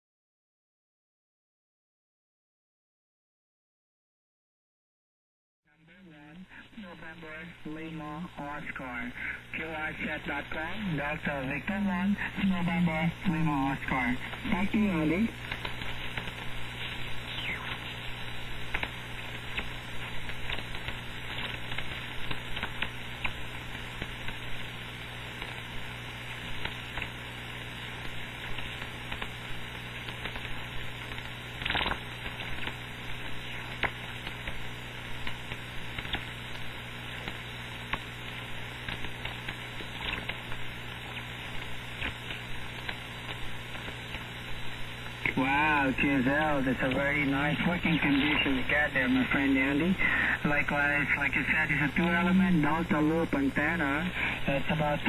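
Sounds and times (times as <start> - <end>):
radio band noise hiss: 5.7 - 55.0
static crackles: 5.7 - 55.0.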